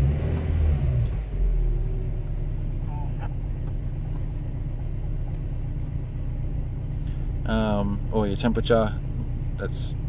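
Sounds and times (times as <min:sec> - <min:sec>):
van engine idling: 0:00.8 - 0:10.0.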